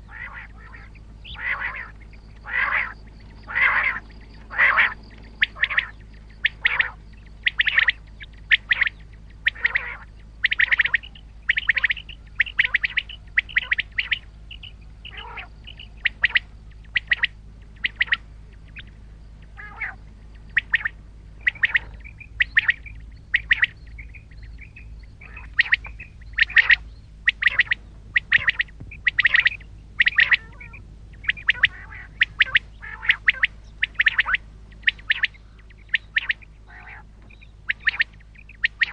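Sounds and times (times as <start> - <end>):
quail calling: 0.0 - 38.9
steady low hum: 0.0 - 38.9.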